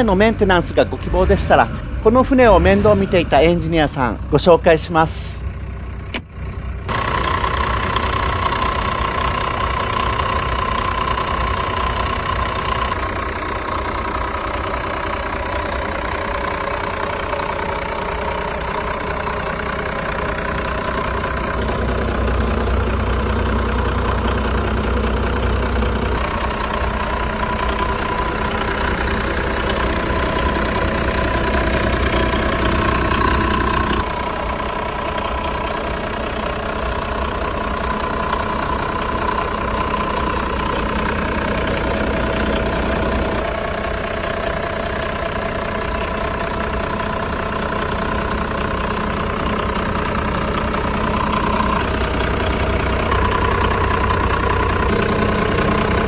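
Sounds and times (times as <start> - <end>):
diesel engine low drone: 0.0 - 56.0
engine whine: 0.0 - 56.0.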